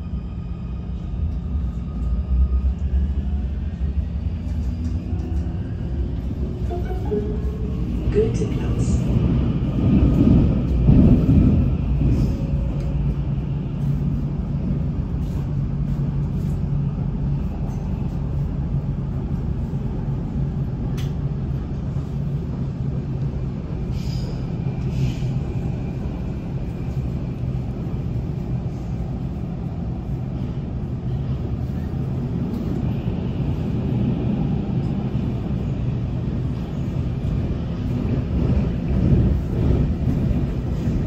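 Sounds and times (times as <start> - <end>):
train rumbling through tunnel: 0.0 - 41.0.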